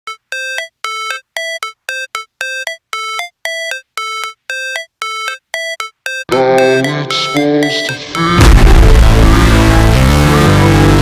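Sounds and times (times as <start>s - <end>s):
synthesized beeping notes: 0.1s - 9.4s.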